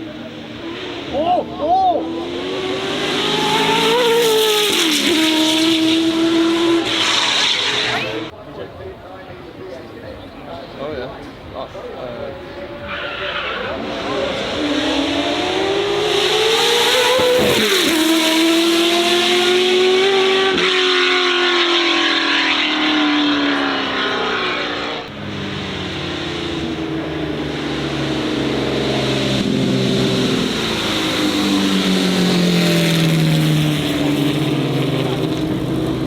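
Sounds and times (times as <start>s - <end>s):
car engine accelerating hard: 0.0s - 8.3s, 13.7s - 36.0s.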